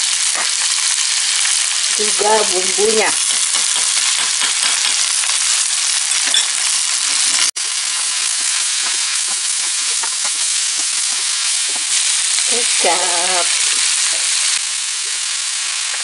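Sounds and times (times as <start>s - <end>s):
noodles sizzling in a wok: 0.0s - 16.0s.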